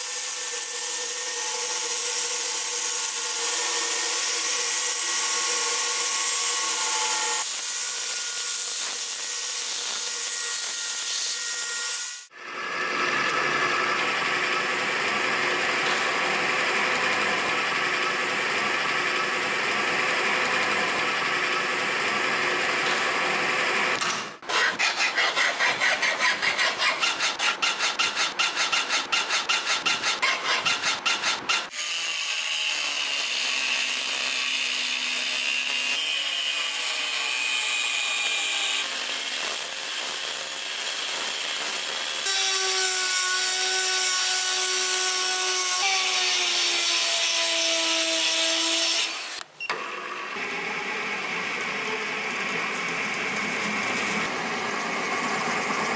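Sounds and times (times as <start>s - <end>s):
angle grinder cutting steel: 0.0s - 49.4s, 50.2s - 55.9s
power tool grinding: 0.3s - 55.9s.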